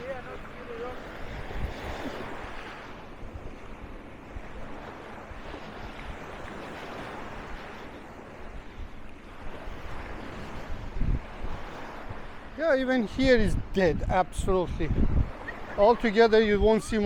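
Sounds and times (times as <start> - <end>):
sea waves on sandy beach: 0.0 - 17.0
wind buffeting microphone: 0.0 - 17.0.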